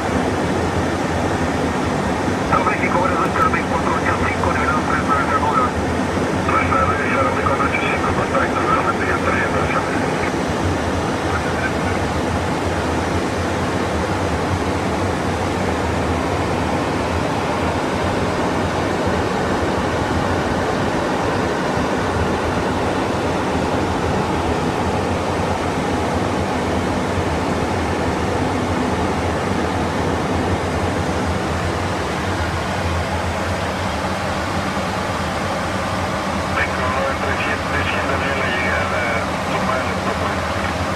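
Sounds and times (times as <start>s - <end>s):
cockpit airflow and engine noise: 0.0s - 40.9s
constant low hum: 0.0s - 40.9s.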